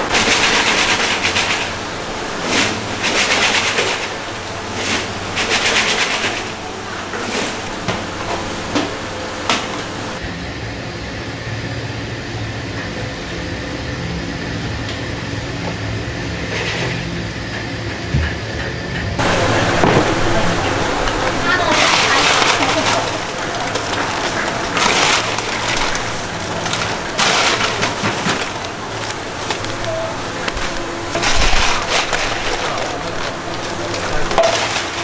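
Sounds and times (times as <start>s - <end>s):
machine humming: 0.0s - 12.3s, 19.1s - 35.0s.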